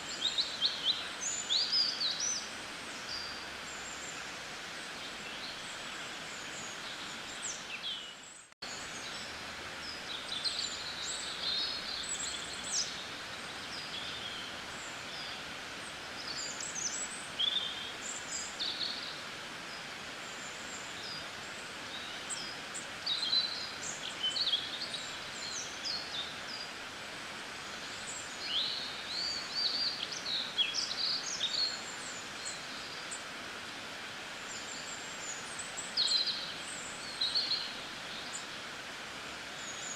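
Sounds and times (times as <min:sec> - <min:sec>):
small birds chirping: 0:00.0 - 0:33.3, 0:34.3 - 0:38.8
steady background hiss: 0:00.0 - 0:39.9.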